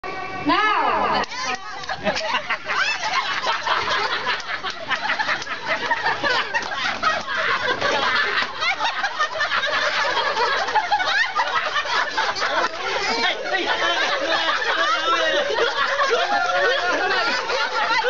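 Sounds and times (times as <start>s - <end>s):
crowd laughing and shrieking: 0.1s - 18.0s.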